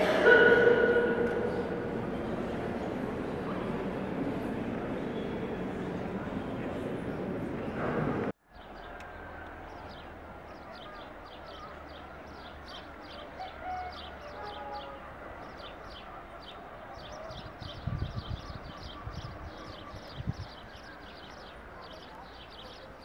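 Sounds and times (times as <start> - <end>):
murmur of distant voices: 0.0 - 23.0.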